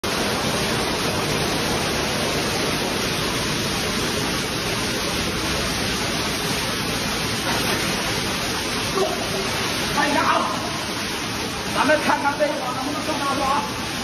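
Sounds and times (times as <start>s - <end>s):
water rushing over ledge: 0.0s - 14.0s.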